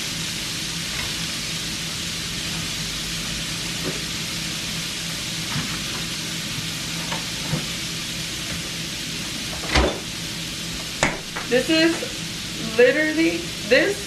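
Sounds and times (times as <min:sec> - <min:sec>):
corn sizzling in a pan: 0:00.0 - 0:14.0.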